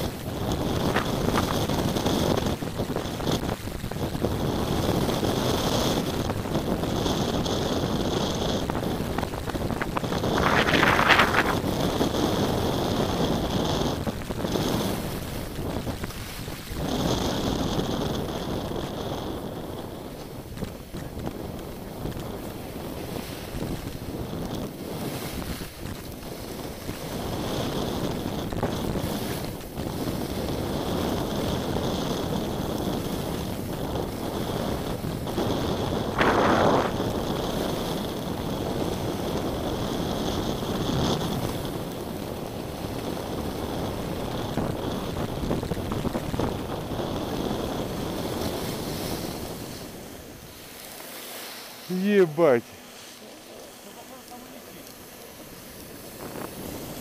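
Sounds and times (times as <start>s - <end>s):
skis hissing over snow: 0.0s - 57.0s
wind rushing over microphone: 0.0s - 57.0s.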